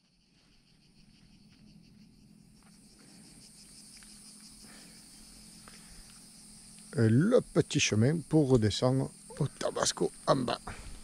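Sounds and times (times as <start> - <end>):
cicadas buzzing: 0.0 - 11.0
faint low hum: 0.0 - 11.0.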